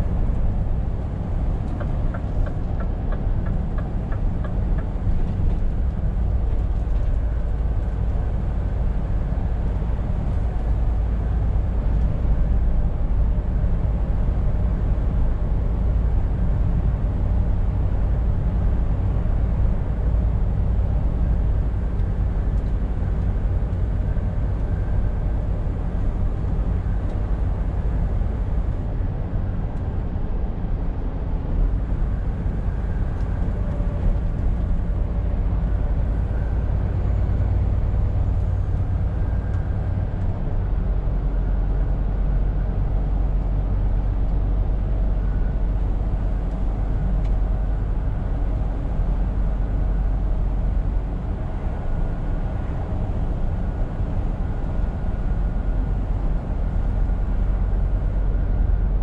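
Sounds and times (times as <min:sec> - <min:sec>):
truck diesel engine droning: 0:00.0 - 0:59.0.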